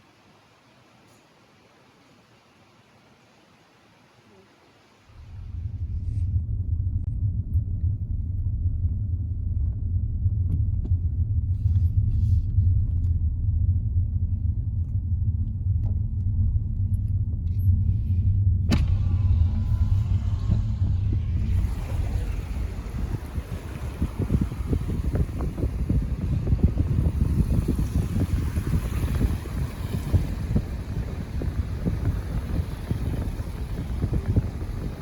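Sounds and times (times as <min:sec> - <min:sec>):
steady low rumble: 0:05.1 - 0:35.0.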